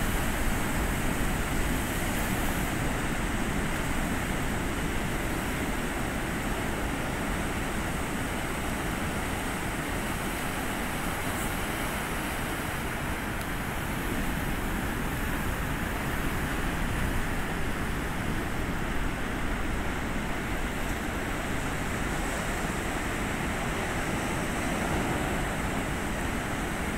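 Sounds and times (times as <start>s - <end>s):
ocean surf breaking: 0.0s - 26.9s.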